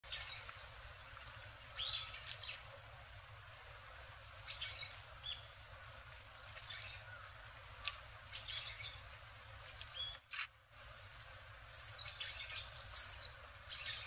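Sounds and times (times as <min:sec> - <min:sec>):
birds chirping: 0:00.0 - 0:14.0
faint outdoor hiss: 0:00.0 - 0:14.0.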